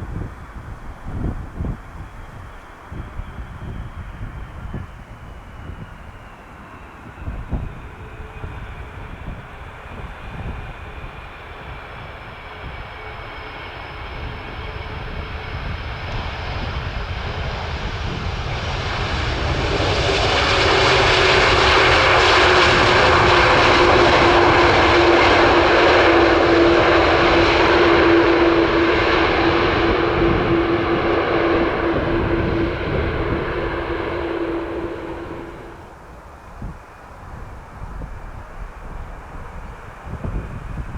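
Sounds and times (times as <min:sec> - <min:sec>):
jet airliner flying past: 0:00.0 - 0:37.8
wind rumbling on microphone: 0:00.0 - 0:40.9.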